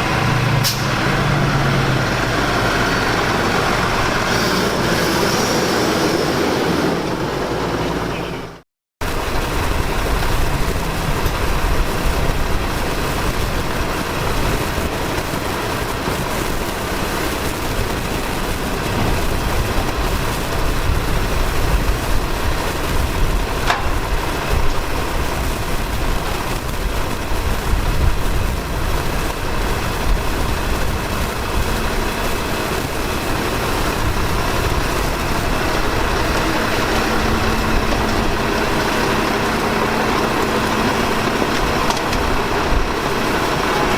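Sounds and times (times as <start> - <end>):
garbage truck engine running: 0.0 - 43.9.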